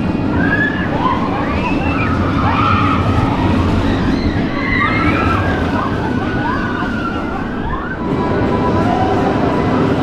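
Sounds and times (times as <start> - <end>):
roller coaster cars rumbling on track: 0.0 - 10.0.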